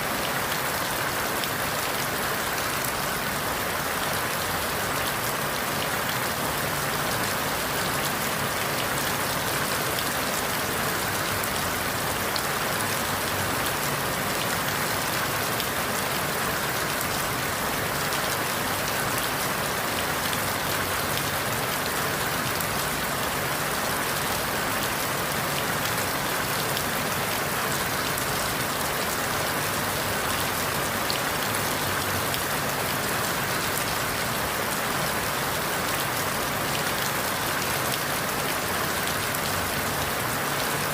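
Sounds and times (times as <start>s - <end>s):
rain falling through leaves: 0.0s - 40.9s.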